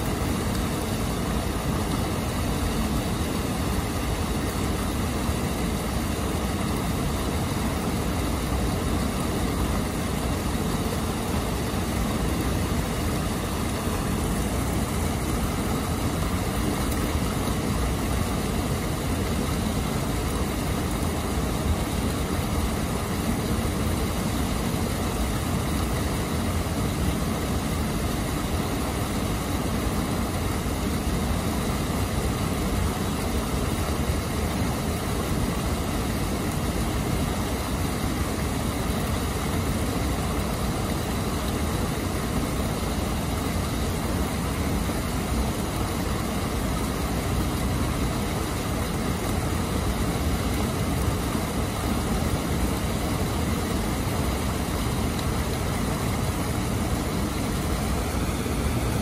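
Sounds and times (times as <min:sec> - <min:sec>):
deep rumble of water: 0:00.0 - 0:59.0
water pouring over a weir: 0:00.0 - 0:59.0.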